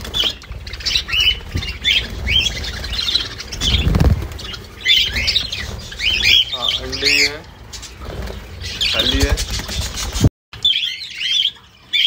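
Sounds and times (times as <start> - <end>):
budgerigars chirping and squawking: 0.0 - 12.0.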